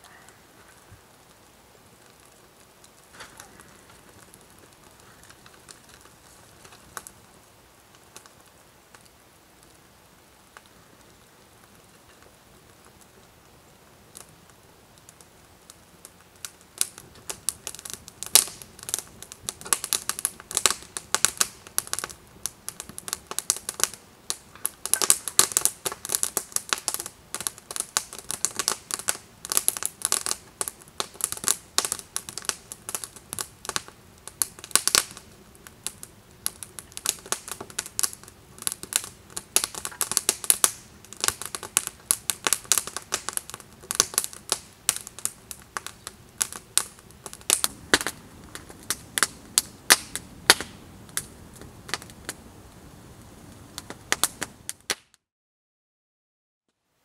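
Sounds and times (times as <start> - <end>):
campfire crackling and popping: 0.0 - 55.2.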